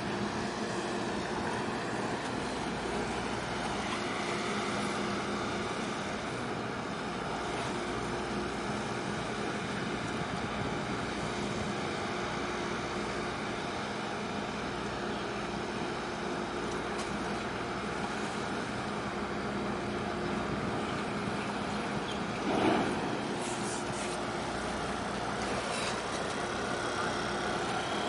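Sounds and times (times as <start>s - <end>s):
harbour noise: 0.0s - 28.0s
ship diesel engine droning: 0.0s - 28.0s.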